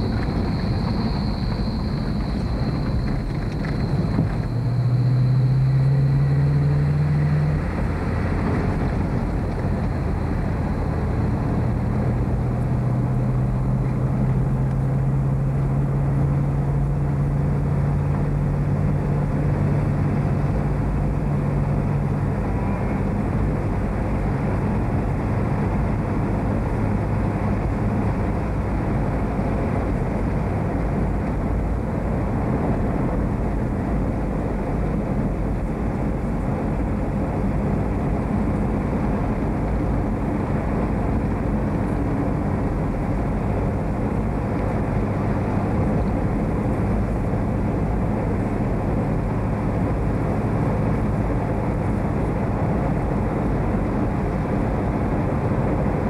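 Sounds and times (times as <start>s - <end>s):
car engine drone: 0.0s - 56.0s
road noise inside car: 0.0s - 56.0s.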